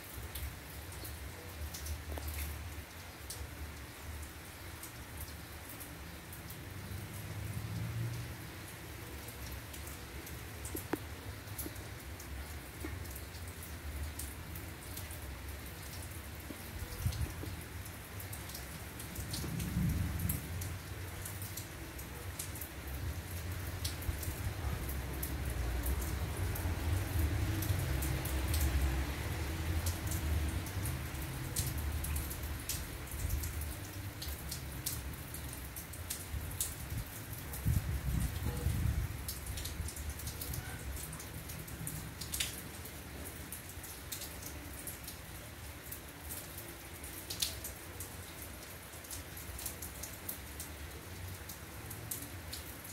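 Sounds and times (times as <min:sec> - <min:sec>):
rain drops ticking: 0:00.0 - 0:52.9
steady rain patter: 0:00.0 - 0:52.9.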